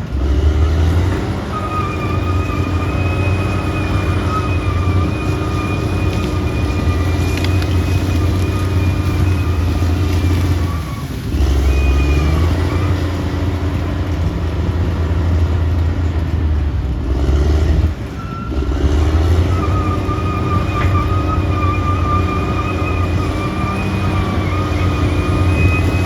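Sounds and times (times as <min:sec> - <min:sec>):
bulldozer diesel engine under load: 0:00.0 - 0:26.0.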